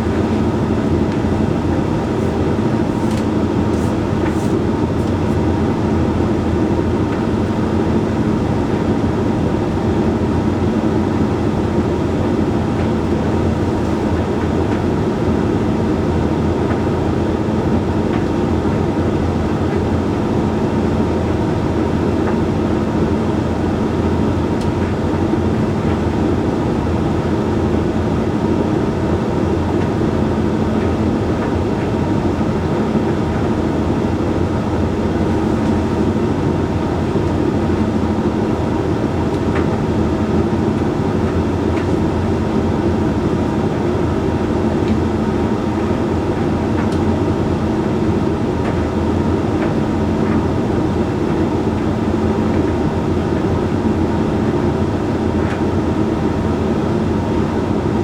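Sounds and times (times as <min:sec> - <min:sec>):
tumble dryer motor and fan hum: 0:00.0 - 0:58.0.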